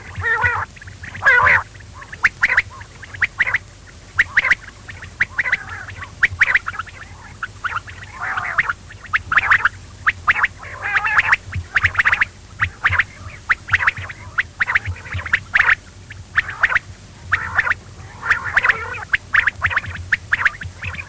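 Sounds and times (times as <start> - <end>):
quail chirping: 0.0 - 21.0.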